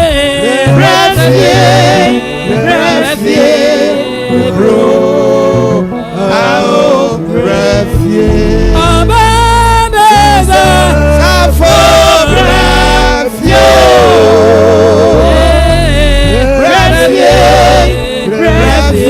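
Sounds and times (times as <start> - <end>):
bass line: 0.0 - 19.0
voices singing gospel song: 0.0 - 19.0.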